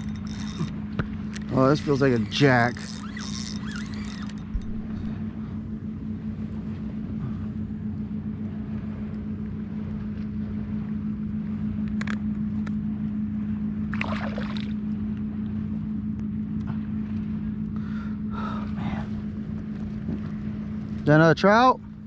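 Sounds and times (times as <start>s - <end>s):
boat motor hum: 0.0s - 22.0s.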